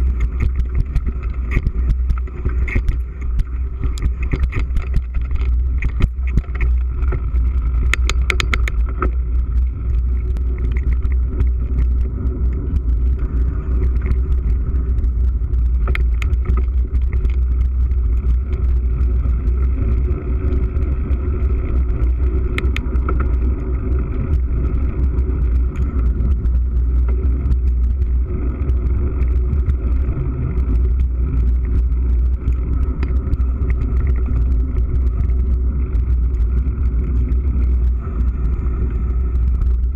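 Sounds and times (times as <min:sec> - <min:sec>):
bike rattling over bumps: 0:00.0 - 0:39.9
wind buffeting and tyre rumble: 0:00.0 - 0:39.9.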